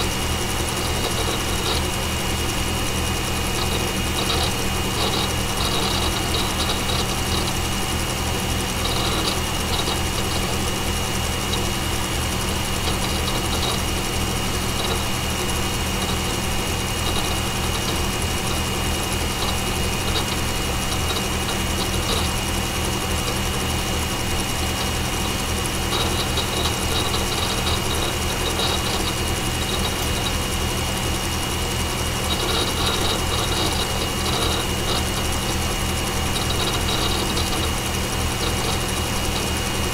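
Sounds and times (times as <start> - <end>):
computer fans whirring: 0.0 - 39.9
hard drive clicking: 0.1 - 39.9.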